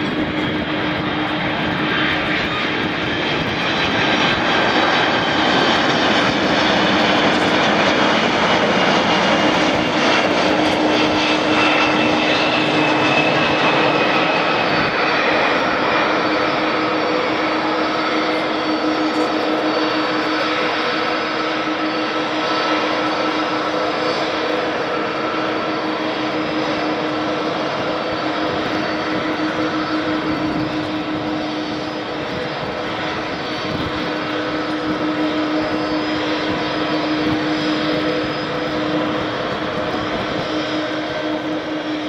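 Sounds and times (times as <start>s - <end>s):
jet engines roaring and whining: 0.0s - 42.0s.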